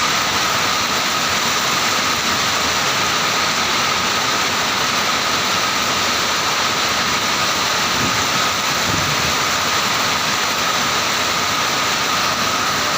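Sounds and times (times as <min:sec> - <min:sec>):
heavy rain in strong wind: 0:00.0 - 0:12.9.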